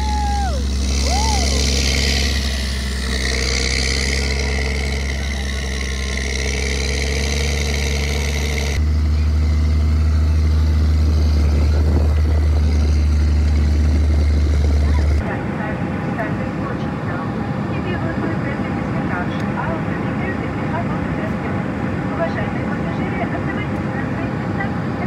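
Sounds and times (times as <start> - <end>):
snowcat diesel engine running: 0.0 - 25.0.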